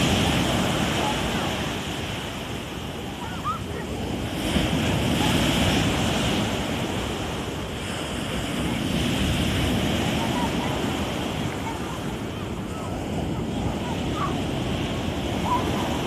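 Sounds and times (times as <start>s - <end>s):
sea surf breaking: 0.0s - 16.0s.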